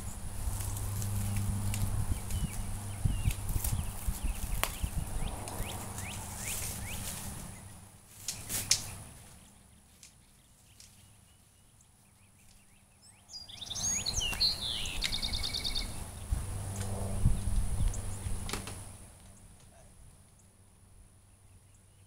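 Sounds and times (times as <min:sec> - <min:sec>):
songbird singing: 0:00.0 - 0:16.5, 0:17.1 - 0:22.0.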